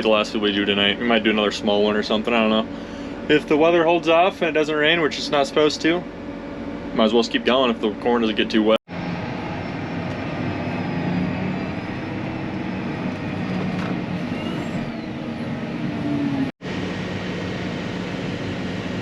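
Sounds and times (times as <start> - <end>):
faint wavering whine: 0.0 - 19.0
harvest machine engine drone: 0.0 - 19.0.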